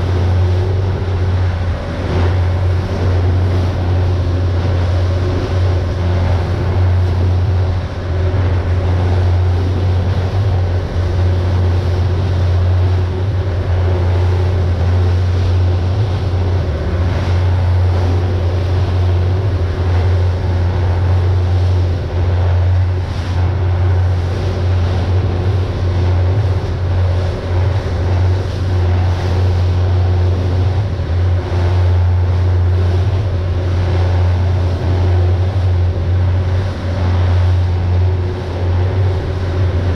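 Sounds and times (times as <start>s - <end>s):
boat engines droning: 0.0s - 39.9s
water and wind against hull: 0.0s - 39.9s.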